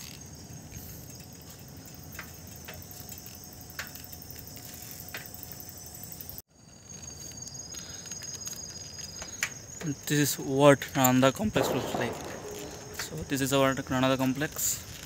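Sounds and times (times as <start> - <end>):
crickets trilling: 0.0 - 15.0
wind and bicycle tyre noise: 0.0 - 15.0.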